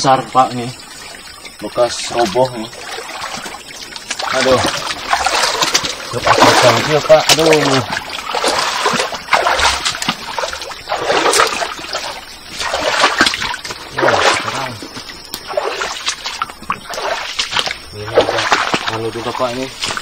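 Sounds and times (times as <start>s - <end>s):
boots splashing through stream: 1.7s - 20.0s.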